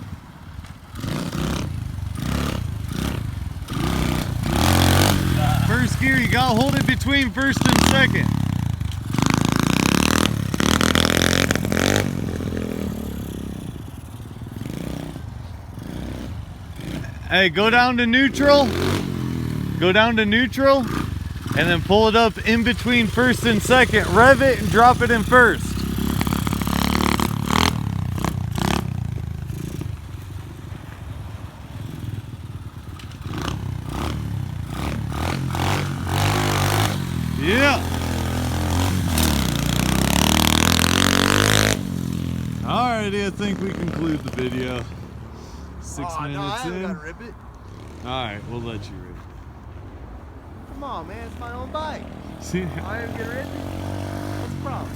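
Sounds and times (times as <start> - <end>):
motorcycle engine revving: 0.0 - 49.2, 50.8 - 54.9.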